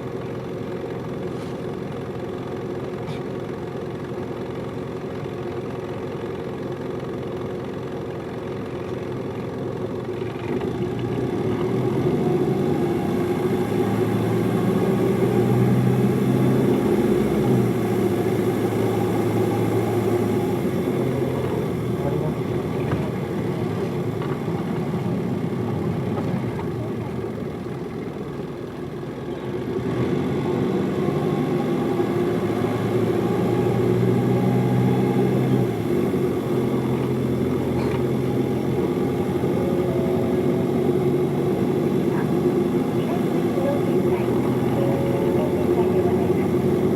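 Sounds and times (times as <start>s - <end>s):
bus diesel engine from inside: 0.0s - 46.9s.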